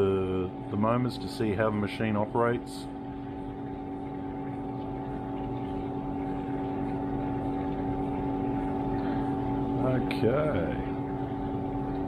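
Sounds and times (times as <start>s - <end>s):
dishwasher motor hum: 0.0s - 12.0s
water rushing inside dishwasher: 0.0s - 12.0s.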